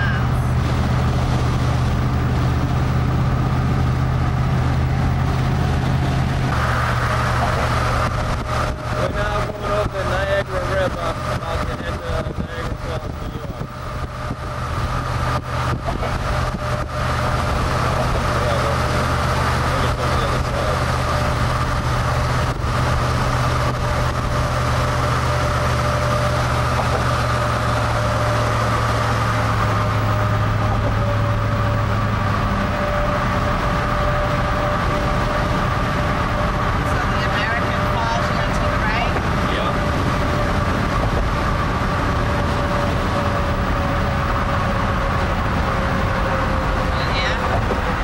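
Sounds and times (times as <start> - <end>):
car engine and tyre drone: 0.0 - 48.0.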